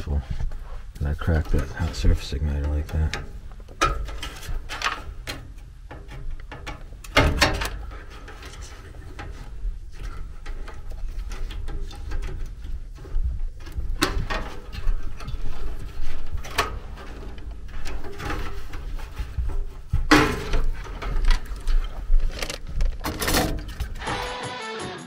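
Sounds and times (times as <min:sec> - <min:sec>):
scraping rustles: 0:00.0 - 0:24.0
tools clicking and knocking on metal: 0:01.3 - 0:18.8, 0:19.4 - 0:24.0.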